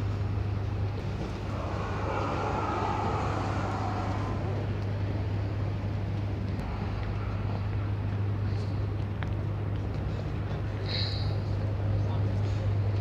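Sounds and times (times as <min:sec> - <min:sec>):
low hum of vehicles: 0:00.0 - 0:13.0
traffic rush: 0:00.1 - 0:10.7.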